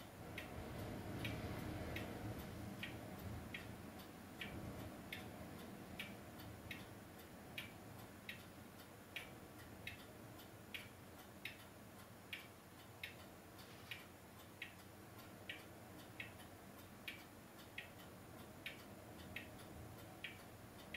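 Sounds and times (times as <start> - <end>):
clock ticking: 0.0 - 20.9
low hum and hiss: 0.0 - 20.9.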